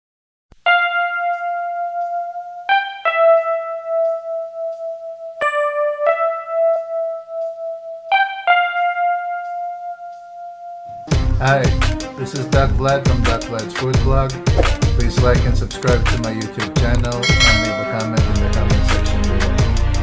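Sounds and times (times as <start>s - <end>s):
slow keyboard melody: 0.6s - 12.5s, 13.1s - 20.0s.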